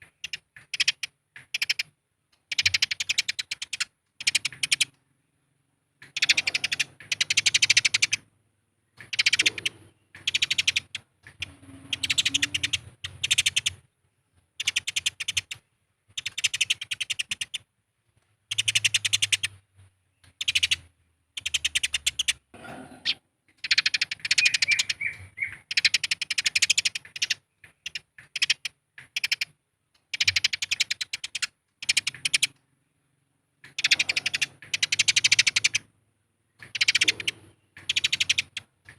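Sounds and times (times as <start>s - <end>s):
sparrows chattering: 0.0s - 8.3s, 8.9s - 17.7s, 18.4s - 38.9s.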